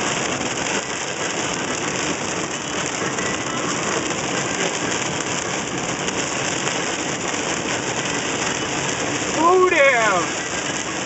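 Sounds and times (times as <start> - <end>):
car engine and road noise: 0.0 - 11.0
heavy rain on car windshield: 0.0 - 11.0.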